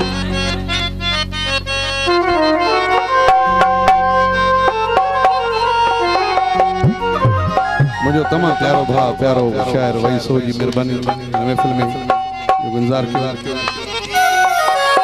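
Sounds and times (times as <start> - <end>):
folk melody over drone: 0.0 - 15.0
drum strokes: 2.8 - 15.0.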